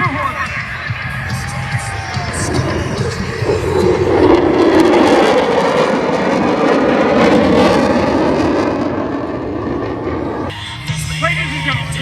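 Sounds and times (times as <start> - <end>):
jet fighter flying by: 0.0 - 12.0.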